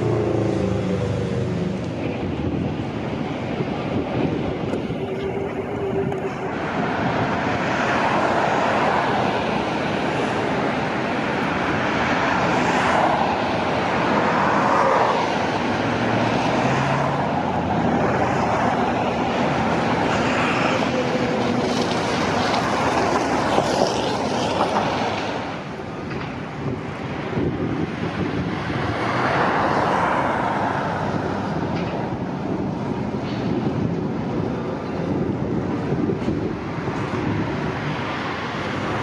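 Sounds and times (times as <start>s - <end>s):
road traffic rushing: 0.0s - 39.0s.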